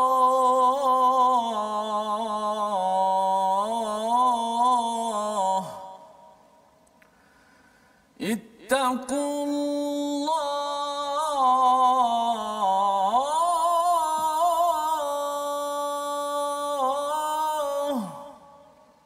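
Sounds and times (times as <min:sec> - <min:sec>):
man chanting melodically: 0:00.0 - 0:06.1, 0:08.2 - 0:18.7.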